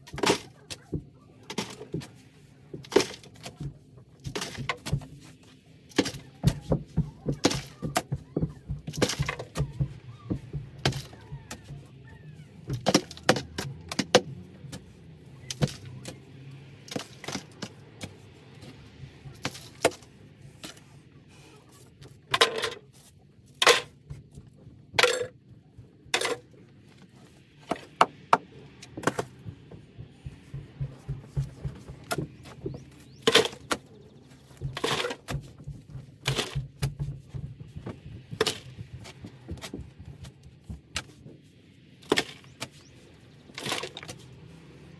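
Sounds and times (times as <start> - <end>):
spade chopping and scraping soil: 0.0 - 12.0, 12.6 - 20.9, 26.1 - 26.6, 27.6 - 44.9
dirt rattling: 0.0 - 20.9, 22.0 - 44.9.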